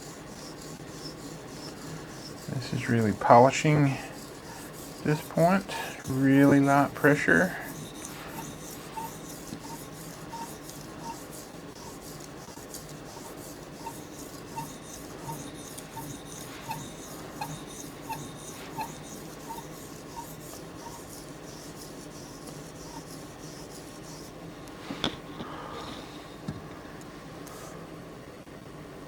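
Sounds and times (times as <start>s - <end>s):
knife scraping on sharpening stone: 0.0s - 24.3s.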